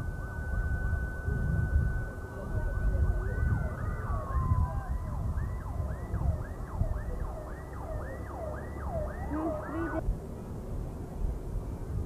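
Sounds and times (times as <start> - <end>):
electronic siren yelping: 0.0 - 10.0
high siren tone sliding down: 0.0 - 10.0.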